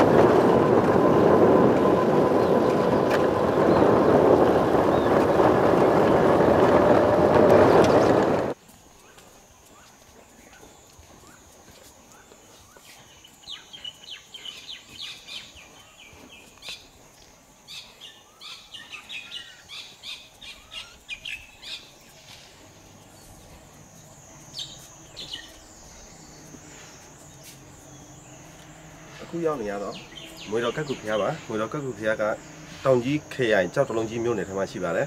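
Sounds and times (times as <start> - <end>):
small birds chirping: 0.2 - 7.0, 8.9 - 35.0.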